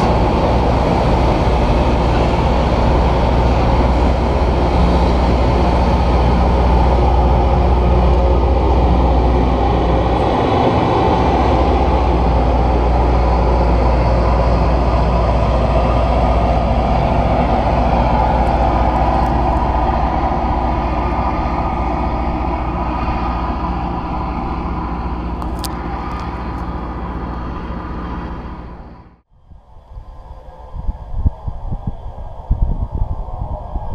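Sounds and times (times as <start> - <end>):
diesel engines running: 0.0 - 29.2
steel wheels rolling on rail: 0.0 - 29.2.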